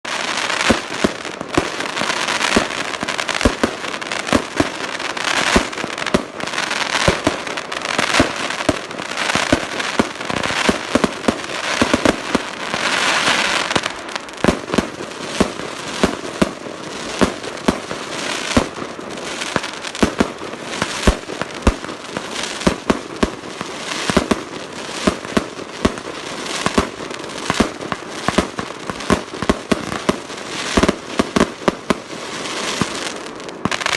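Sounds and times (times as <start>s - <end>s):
firework bangs: 0.0s - 33.9s
firework crackling hiss: 0.1s - 33.9s.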